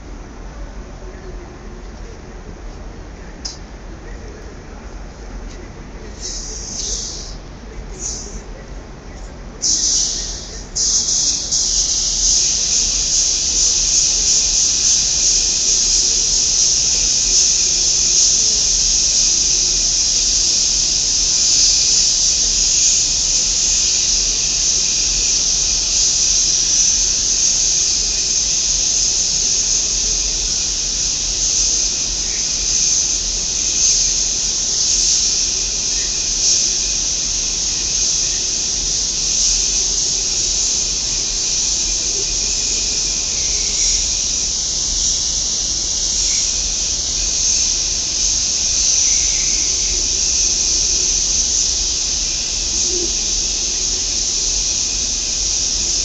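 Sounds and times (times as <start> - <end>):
paint spray gun hissing: 6.2 - 8.5, 9.6 - 56.0.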